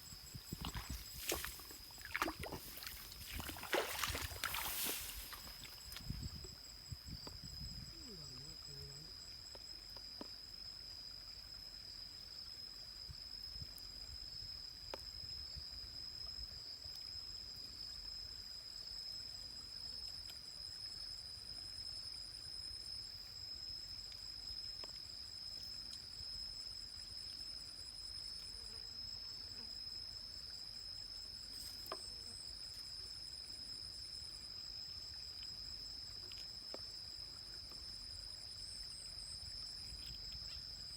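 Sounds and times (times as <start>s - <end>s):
insect trills: 0.0s - 40.9s.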